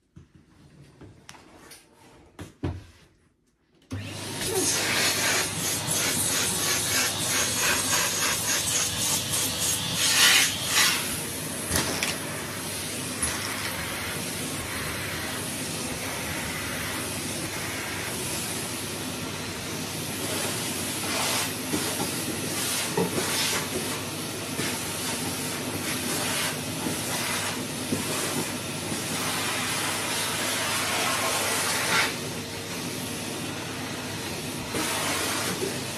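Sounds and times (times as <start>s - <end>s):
vacuum cleaner running: 3.9s - 35.9s.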